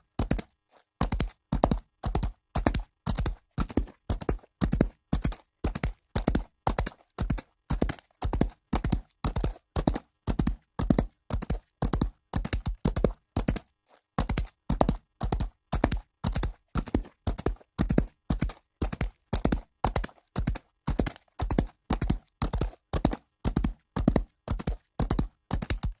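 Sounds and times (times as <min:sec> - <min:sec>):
horse hoofbeats galloping on dirt: 0:00.0 - 0:26.0.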